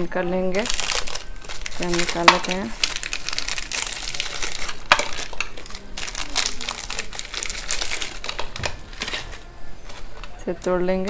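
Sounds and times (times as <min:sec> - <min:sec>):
plastic wrapper crinkling: 0:00.6 - 0:10.7.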